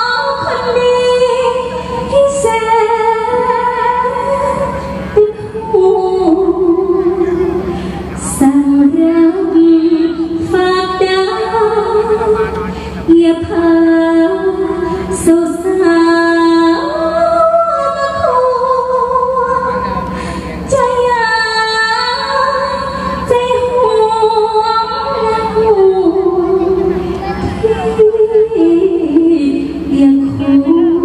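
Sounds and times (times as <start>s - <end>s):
woman singing into a microphone: 0.0s - 31.0s.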